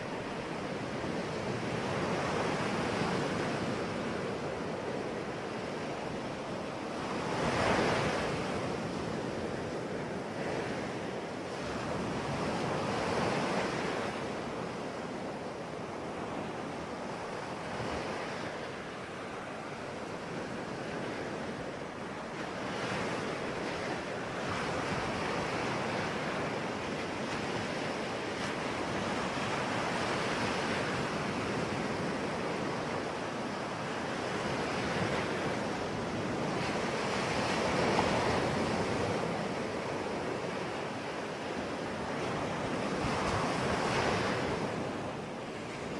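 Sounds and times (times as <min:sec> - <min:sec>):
sea waves breaking on shore: 0:00.0 - 0:45.9.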